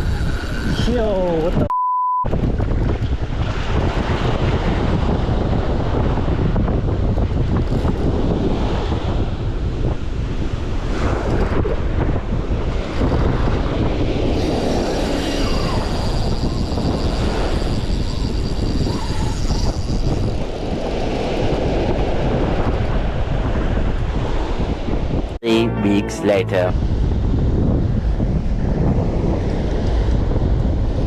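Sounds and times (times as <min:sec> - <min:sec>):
wind buffeting microphone: 0:00.0 - 0:01.7, 0:02.3 - 0:25.4, 0:26.7 - 0:31.0.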